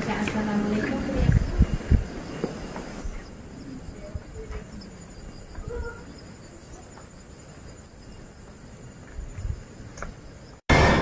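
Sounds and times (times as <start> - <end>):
insect trill: 0.0 - 10.6.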